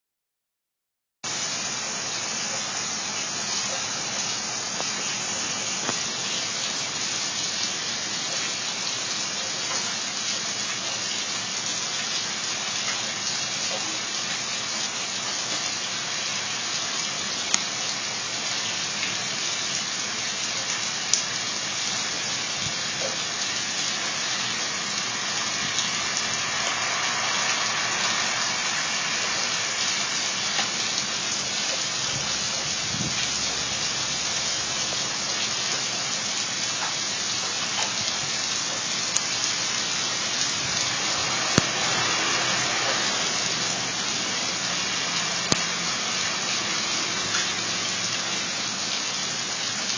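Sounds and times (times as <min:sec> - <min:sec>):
heavy rain and hail: 0:01.3 - 0:49.9.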